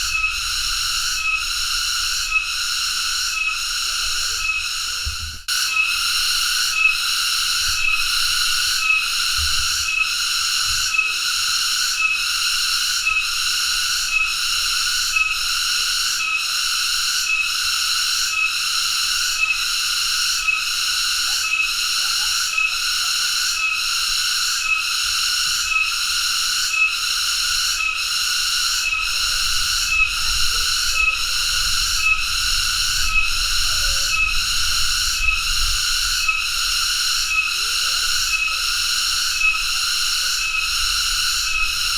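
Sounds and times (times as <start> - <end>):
cicada buzzing: 0.0 - 41.9.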